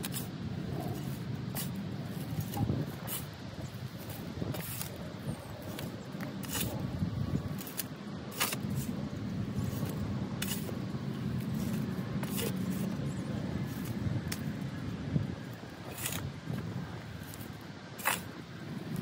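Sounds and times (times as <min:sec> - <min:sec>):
shovel scraping into soil: 0:00.0 - 0:14.5, 0:15.8 - 0:19.0
steady low rumble: 0:00.0 - 0:19.0.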